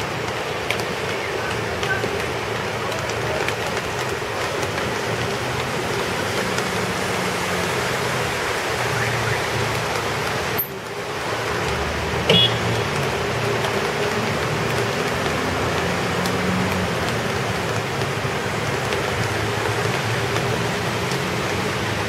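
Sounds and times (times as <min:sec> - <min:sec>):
cars passing on wet street: 0:00.0 - 0:22.0
rainstorm: 0:00.0 - 0:22.0.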